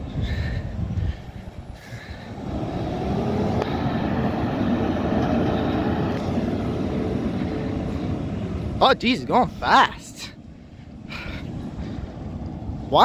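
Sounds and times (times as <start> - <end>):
garbage truck engine drone: 0.0 - 13.0
road noise: 0.0 - 13.0.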